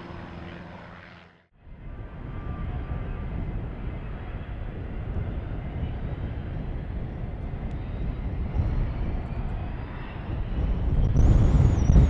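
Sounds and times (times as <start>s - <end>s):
faint high engine whine: 0.0s - 12.0s
jet taxiing rumble: 0.0s - 12.0s.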